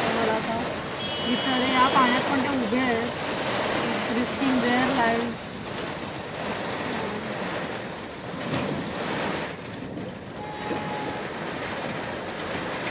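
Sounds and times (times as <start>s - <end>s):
heavy rain pouring: 0.0s - 12.9s
vehicles driving through floodwater: 0.0s - 12.9s.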